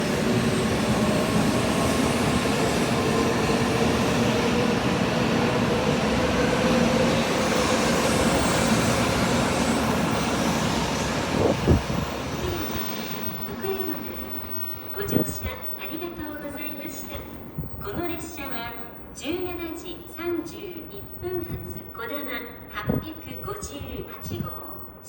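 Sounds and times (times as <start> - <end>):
high-speed train rushing: 0.0 - 25.0.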